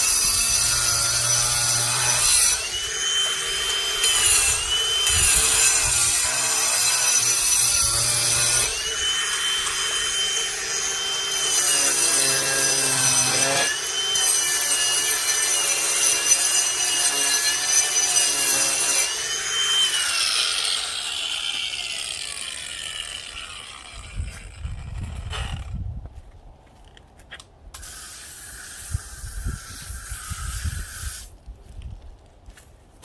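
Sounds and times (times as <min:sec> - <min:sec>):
angle grinder grinding concrete: 0:00.0 - 0:25.8, 0:27.8 - 0:31.3.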